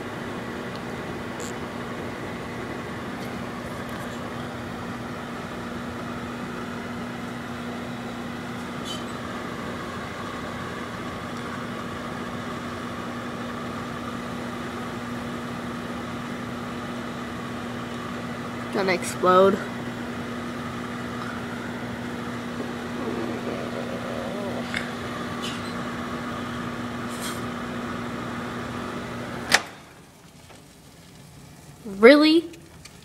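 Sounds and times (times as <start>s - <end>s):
microwave oven humming: 0.0s - 33.0s.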